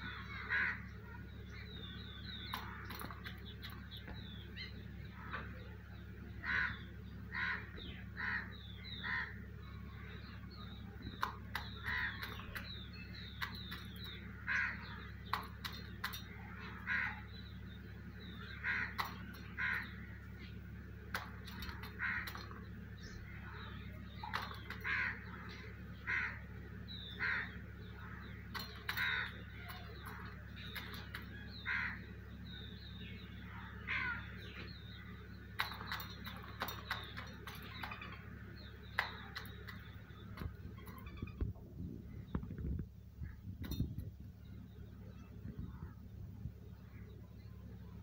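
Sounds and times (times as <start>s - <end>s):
harsh caw-like bird calls: 0.0s - 42.5s
faint high bird chirps: 0.0s - 48.0s.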